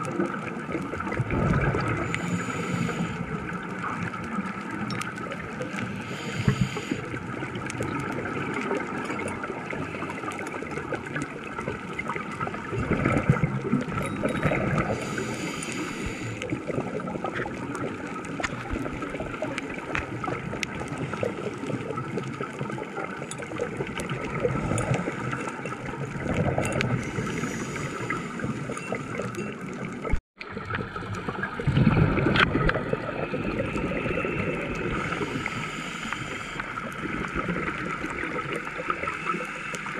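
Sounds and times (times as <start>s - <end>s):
fine crackle of clicks: 0.0s - 39.9s
scuba exhaust bubbles gurgling: 0.0s - 39.9s
underwater water noise: 0.0s - 39.9s.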